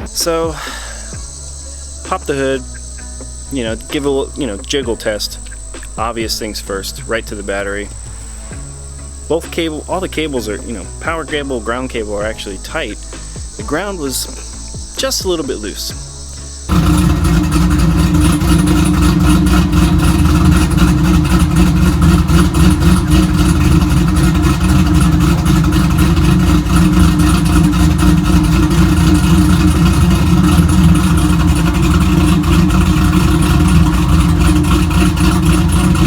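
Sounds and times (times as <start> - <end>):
car engine running loudly: 0.0 - 36.0.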